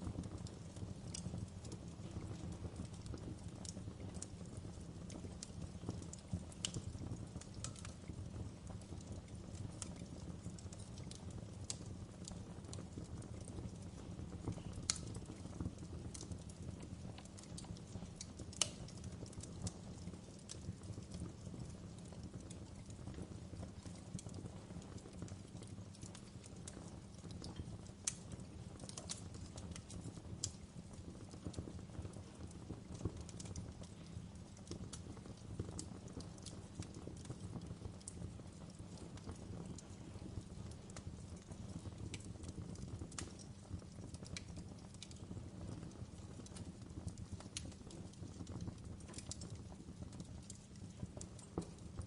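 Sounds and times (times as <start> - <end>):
low rumble of flames: 0.0 - 52.0
wood fire pops and snaps: 0.0 - 52.0.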